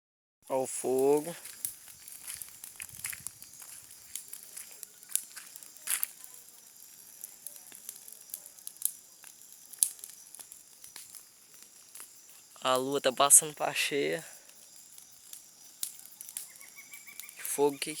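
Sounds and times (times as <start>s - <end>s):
wood fire crackling and popping: 0.4s - 18.0s.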